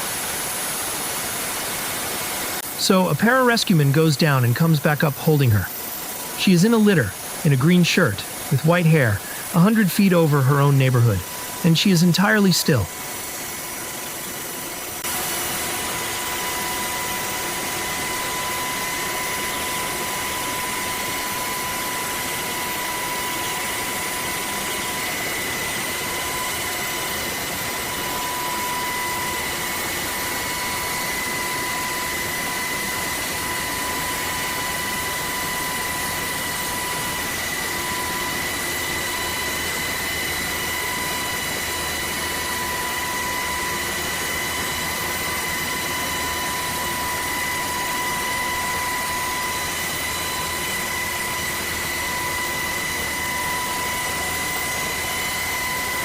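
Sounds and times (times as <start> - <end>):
helicopter hovering: 0.0 - 56.0
high turbine whine: 0.0 - 56.0.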